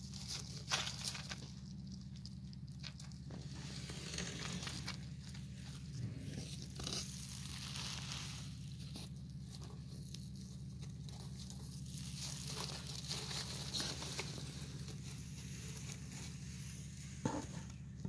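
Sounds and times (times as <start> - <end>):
rabbits rustling in dry hay: 0.0 - 18.0
steady low hum: 0.0 - 18.0.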